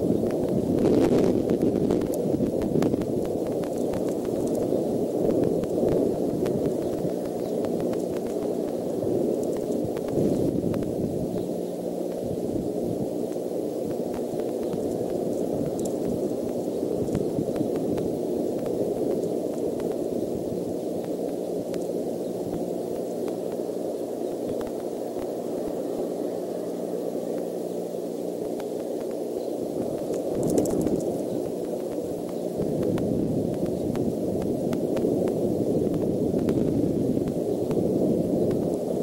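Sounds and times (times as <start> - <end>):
faint hum: 0.0 - 39.0
microphone rumbling hiss: 0.0 - 39.0
faint ticks: 0.2 - 12.3, 12.9 - 25.8, 28.4 - 39.0.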